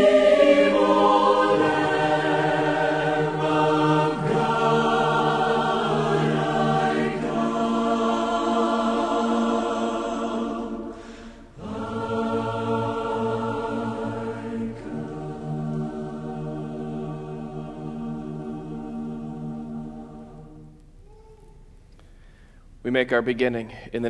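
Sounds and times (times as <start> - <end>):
church music in held chords: 0.0 - 21.0.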